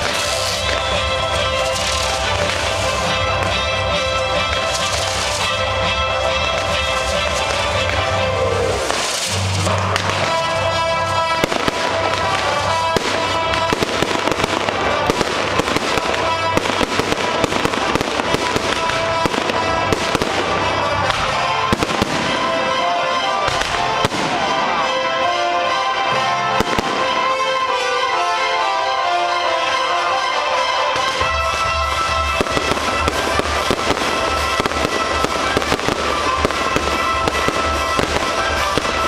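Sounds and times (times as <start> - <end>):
fireworks bangs and crackles: 0.0 - 39.0
music with long held tones: 0.0 - 39.0.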